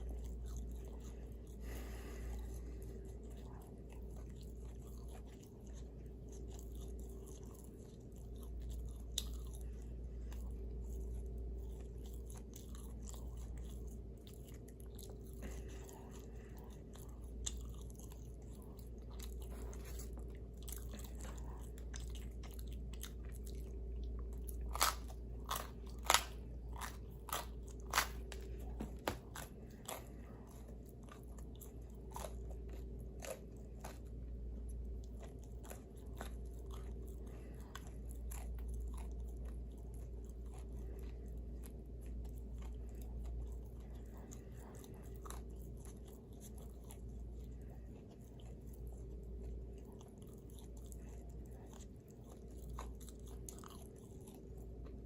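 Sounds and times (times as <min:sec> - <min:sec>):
crunchy chewing: 0:00.0 - 0:55.0
low hum: 0:00.0 - 0:55.0.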